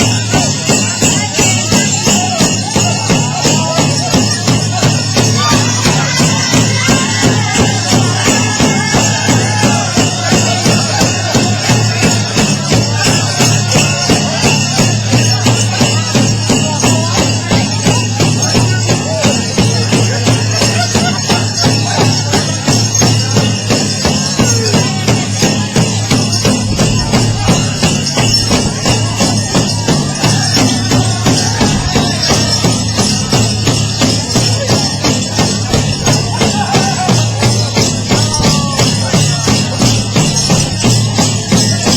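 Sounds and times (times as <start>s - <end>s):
big drum fast beat: 0.0s - 41.9s
metallic jingling: 0.0s - 41.9s.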